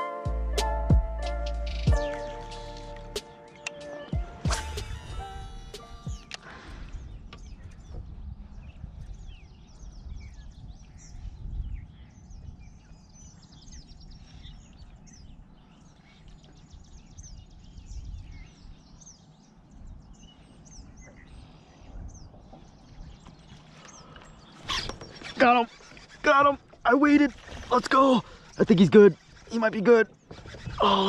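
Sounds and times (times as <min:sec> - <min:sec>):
birds chirping and singing: 0:00.0 - 0:31.0.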